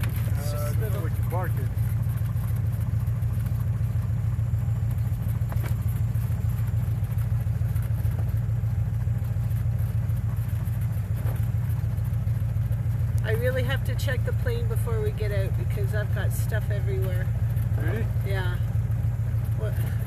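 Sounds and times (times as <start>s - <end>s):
propeller engine drone: 0.0s - 20.0s.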